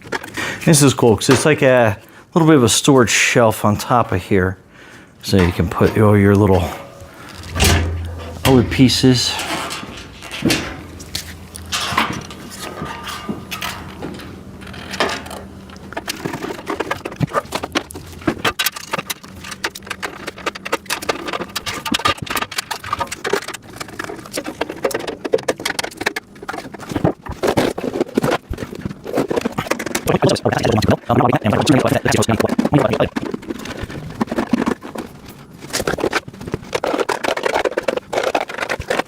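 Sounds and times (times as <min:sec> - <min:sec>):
plastic bins clicking and clattering: 0:00.0 - 0:02.0, 0:05.2 - 0:39.0.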